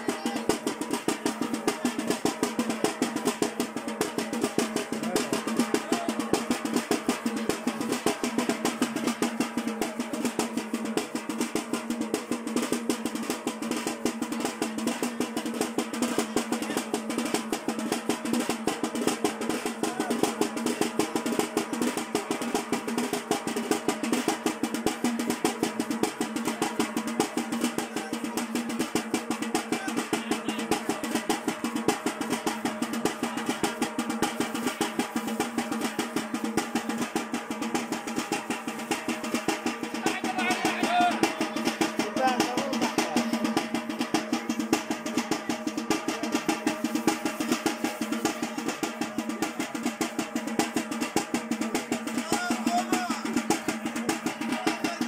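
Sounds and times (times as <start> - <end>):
fast steady drumming: 0.0 - 55.0.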